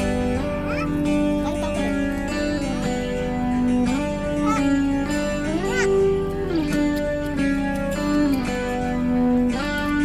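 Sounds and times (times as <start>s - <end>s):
guitar instrumental music: 0.0s - 10.0s.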